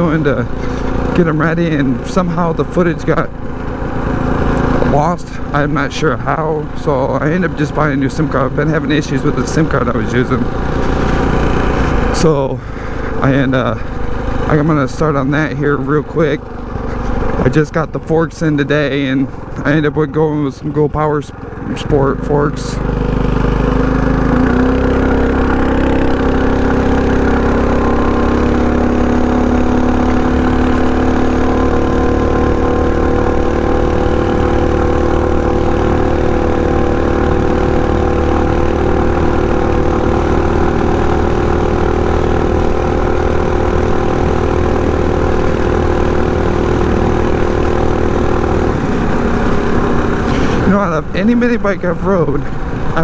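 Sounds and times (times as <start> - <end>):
mini bike engine running: 0.0 - 53.0.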